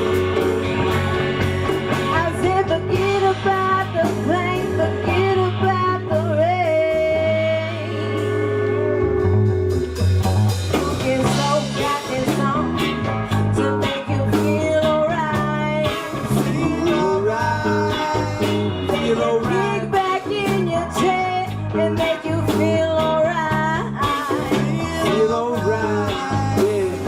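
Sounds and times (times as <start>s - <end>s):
person singing: 0.0s - 9.3s, 10.7s - 27.0s
bass: 0.0s - 27.0s
guitar: 0.0s - 27.0s
live band music: 0.0s - 27.0s.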